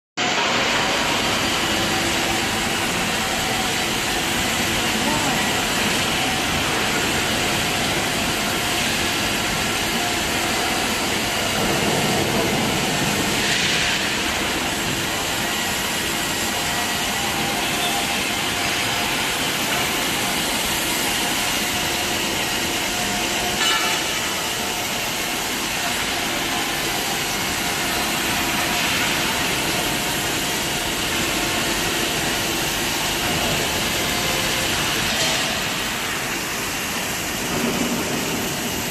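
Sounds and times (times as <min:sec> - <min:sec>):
machine noise: 0:00.2 - 0:38.9.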